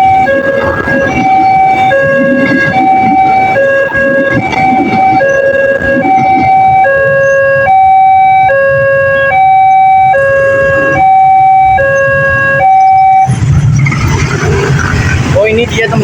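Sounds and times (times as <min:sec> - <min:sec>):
rumbling noise: 0:00.0 - 0:08.4, 0:09.8 - 0:16.0
level crossing warning siren: 0:00.0 - 0:15.4.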